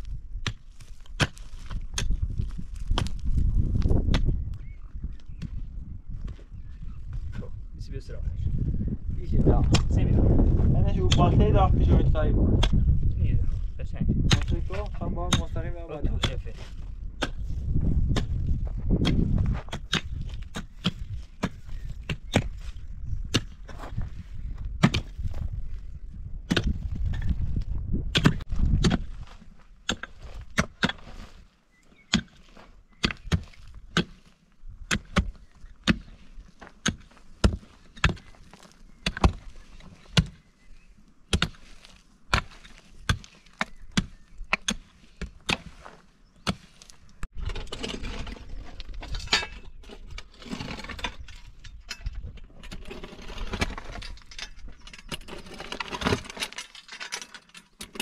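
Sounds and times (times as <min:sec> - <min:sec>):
shovel scraping soil and stones: 0:00.0 - 0:04.3, 0:10.9 - 0:25.8, 0:26.5 - 0:58.0
pick striking stony earth: 0:00.0 - 0:05.6, 0:09.3 - 0:25.8, 0:26.4 - 0:58.0.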